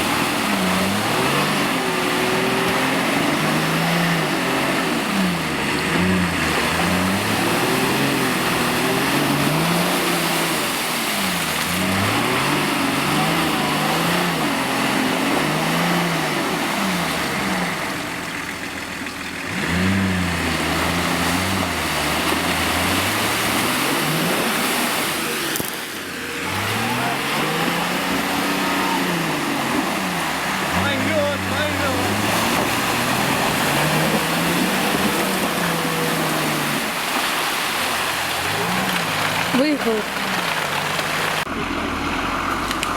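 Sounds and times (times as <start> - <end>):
off-road vehicle engine revving: 0.0 - 42.9.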